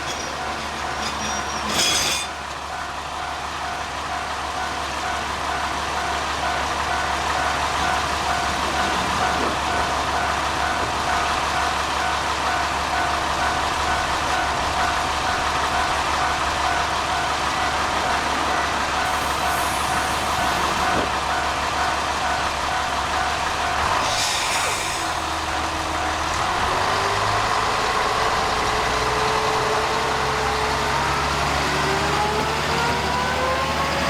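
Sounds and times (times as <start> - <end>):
diesel railcar rumbling past: 0.0 - 34.0
level-crossing warning bell: 0.0 - 34.0.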